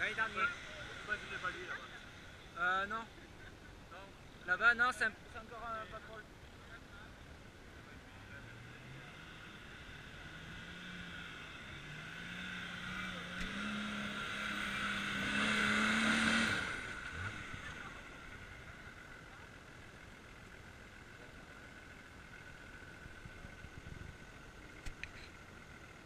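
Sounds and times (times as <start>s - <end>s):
off-road vehicle engine revving: 0.0s - 3.5s, 7.7s - 26.0s.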